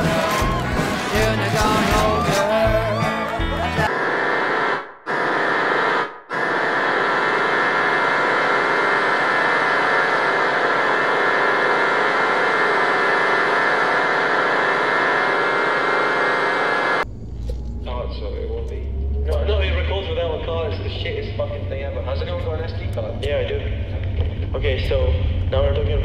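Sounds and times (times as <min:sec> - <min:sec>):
hum: 0:03.9 - 0:26.0.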